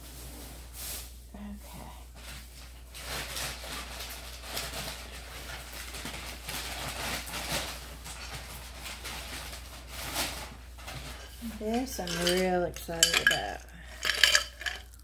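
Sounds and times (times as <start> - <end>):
rustling handling noise: 2.2 - 15.0.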